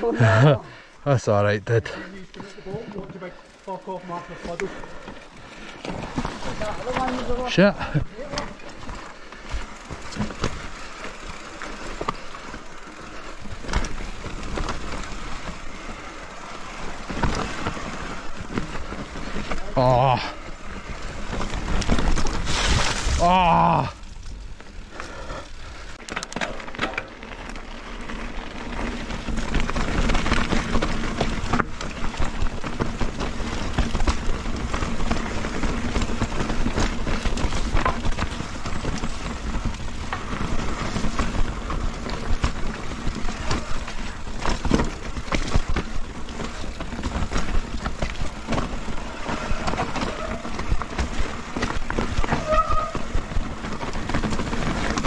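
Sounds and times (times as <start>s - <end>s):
bike knocking and rattling on roots: 1.3s - 55.0s.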